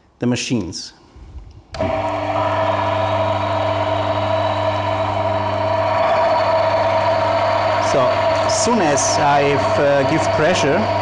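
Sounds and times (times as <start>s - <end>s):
electric motor humming and whining: 1.8s - 11.0s.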